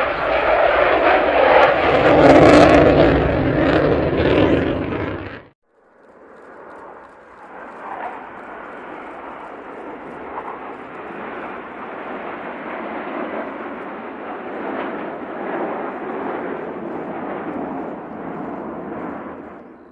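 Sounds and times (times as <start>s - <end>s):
jet engine rushing noise: 0.0s - 19.8s.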